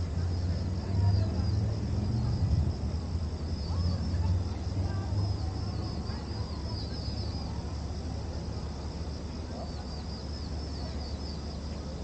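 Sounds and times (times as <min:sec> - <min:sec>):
cicadas chirping: 0:00.0 - 0:12.0
low steady rumble: 0:00.0 - 0:12.0.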